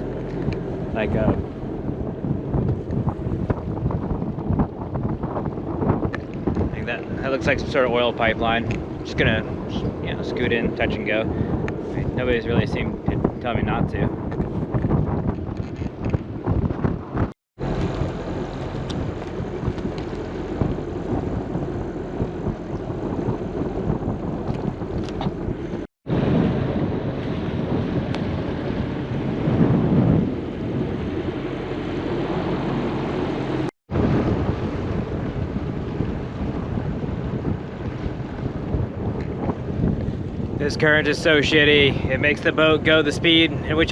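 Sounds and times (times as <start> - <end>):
boat engine running: 0.0 - 43.9
water rushing along hull: 0.0 - 43.9
wind buffeting microphone: 0.0 - 43.9.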